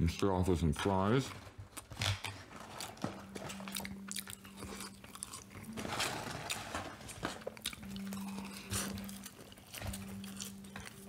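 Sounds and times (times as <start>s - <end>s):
person chewing crunchy fries: 1.7s - 11.0s.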